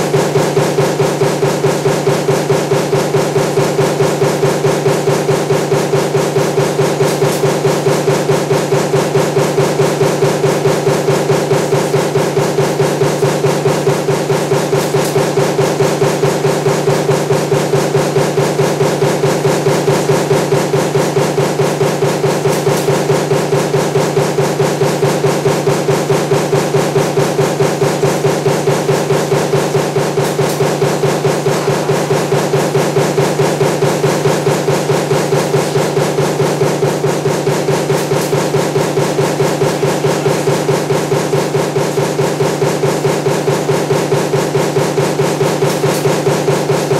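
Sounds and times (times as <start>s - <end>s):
power press stamping strokes: 0.0s - 46.9s
steady machine hum: 0.0s - 46.9s.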